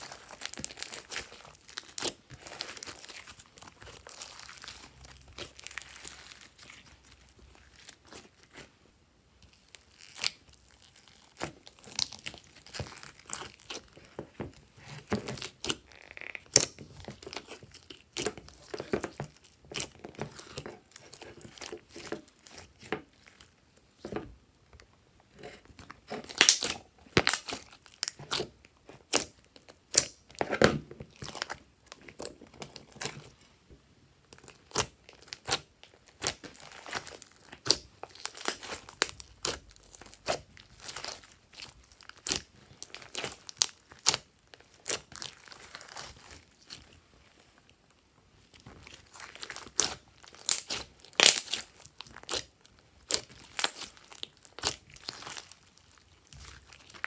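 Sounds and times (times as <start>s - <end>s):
hands squishing slime: 0.0s - 24.2s, 25.5s - 33.5s, 34.3s - 47.2s, 48.4s - 57.0s.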